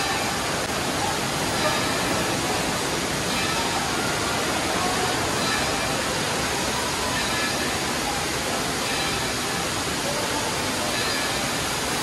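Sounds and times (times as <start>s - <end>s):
faint distant voices: 0.0s - 12.0s
water splashing in pool: 0.0s - 12.0s.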